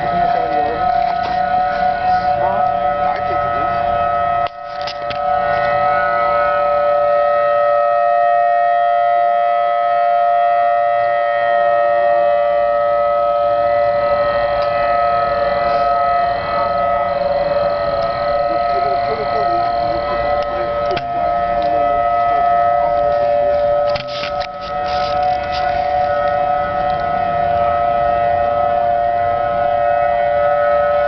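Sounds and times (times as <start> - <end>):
tornado warning siren wailing: 0.0 - 31.0.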